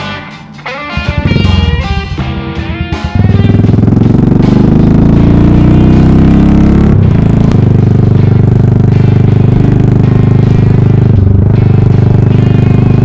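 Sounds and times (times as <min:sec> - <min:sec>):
motorcycle engine revving: 0:00.8 - 0:13.0.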